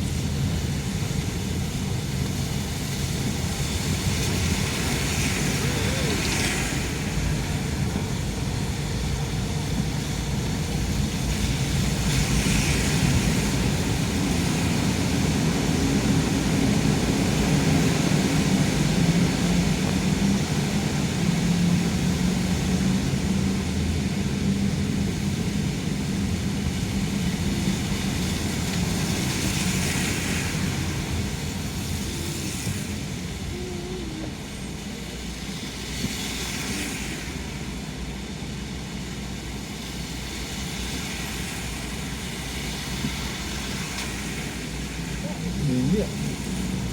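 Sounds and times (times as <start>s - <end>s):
tyre hiss on wet road: 0.0s - 45.2s
car engine and road rumble: 0.0s - 46.9s.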